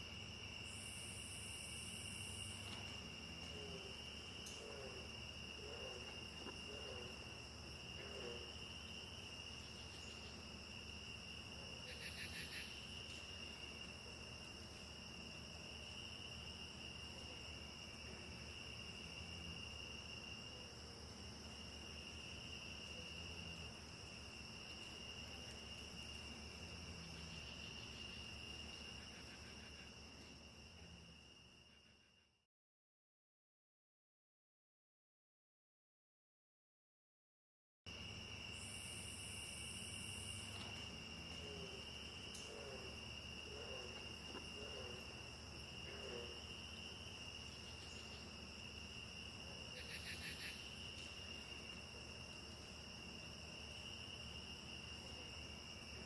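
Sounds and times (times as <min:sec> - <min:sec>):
insect chorus trilling: 0:00.0 - 0:32.4, 0:37.9 - 0:56.0.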